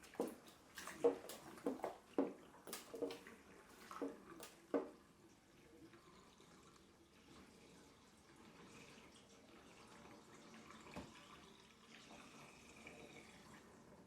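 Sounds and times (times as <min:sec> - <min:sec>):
water trickling and dripping: 0:00.0 - 0:14.0.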